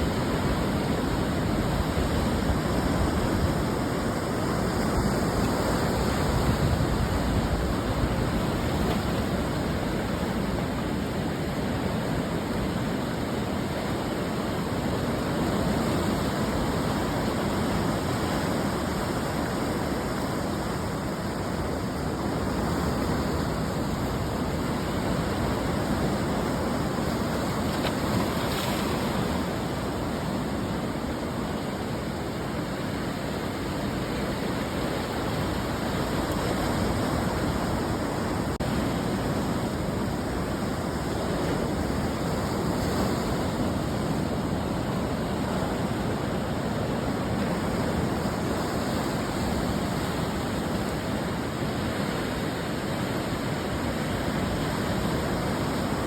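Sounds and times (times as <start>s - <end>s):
ocean surf breaking on a beach: 0.0s - 56.0s.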